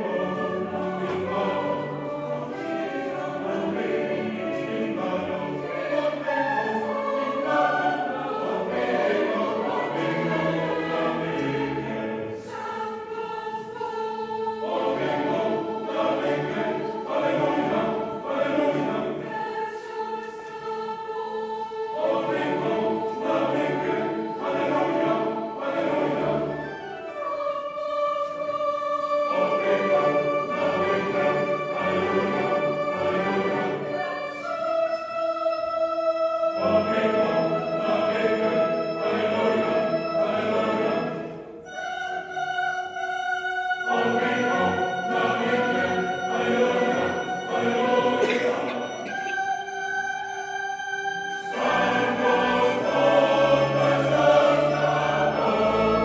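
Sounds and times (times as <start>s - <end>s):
church choir singing: 0.0s - 56.0s.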